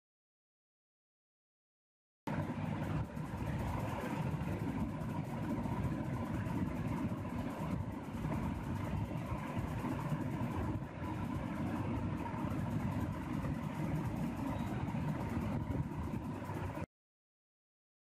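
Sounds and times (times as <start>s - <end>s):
faint steady hum: 2.3s - 16.9s
low rumbling background noise: 2.3s - 16.9s.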